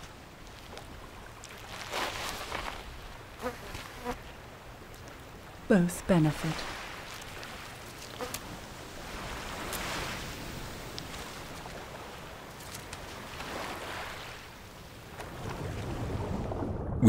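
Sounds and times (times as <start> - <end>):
surf on pebbly shore: 0.0 - 16.9.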